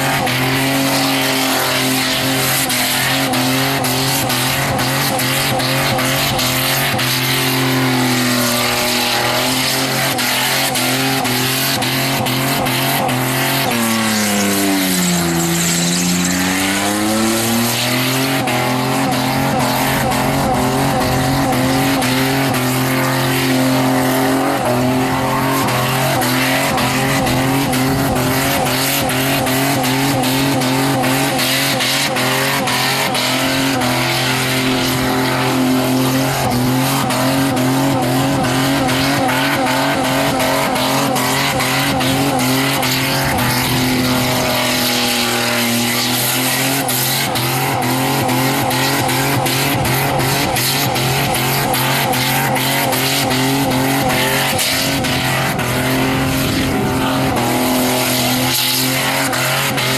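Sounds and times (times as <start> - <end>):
car engine at high revs: 0.0 - 59.9.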